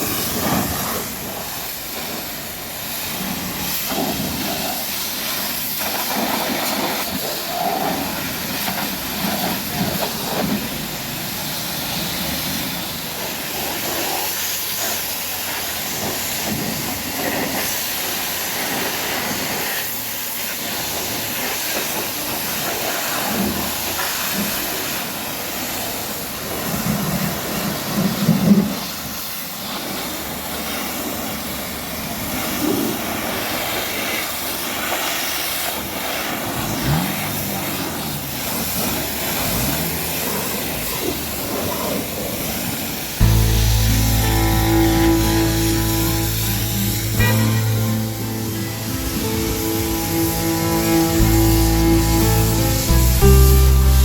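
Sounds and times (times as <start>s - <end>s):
pressure washer spray hissing: 0.0s - 54.0s.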